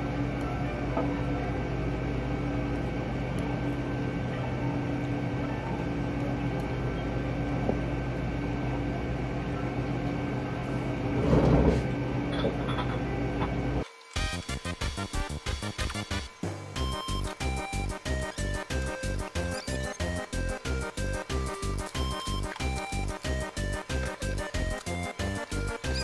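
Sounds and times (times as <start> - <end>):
machine hum with held tones: 0.0 - 26.0.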